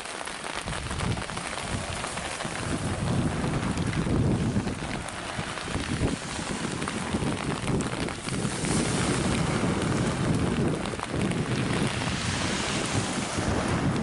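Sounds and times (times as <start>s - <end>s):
surf washing: 0.0s - 14.0s
wind buffeting microphone: 0.5s - 14.0s.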